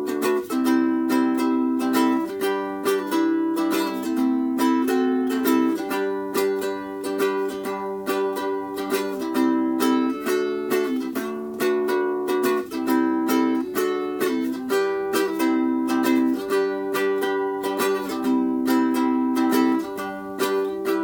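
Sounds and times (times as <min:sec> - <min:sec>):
ukulele chord strums: 0:00.0 - 0:21.0.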